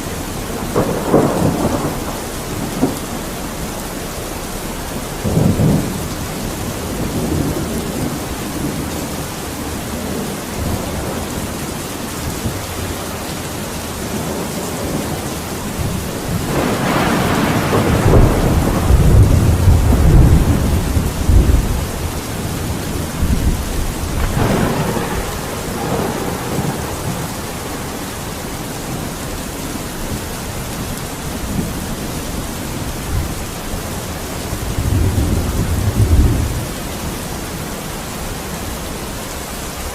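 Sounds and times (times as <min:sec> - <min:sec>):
rolling thunder: 0:00.0 - 0:37.6
heavy rain: 0:00.0 - 0:39.9.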